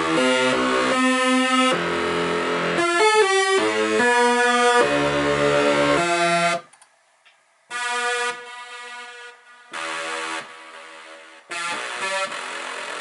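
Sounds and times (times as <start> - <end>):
synthesizer notes and chords: 0.0 - 7.0, 7.6 - 13.0.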